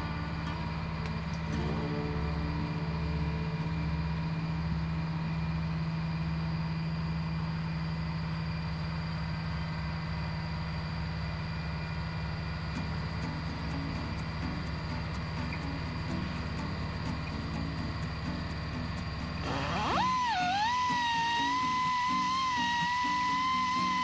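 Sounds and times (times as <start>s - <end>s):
low mechanical hum with throb: 0.0s - 24.0s.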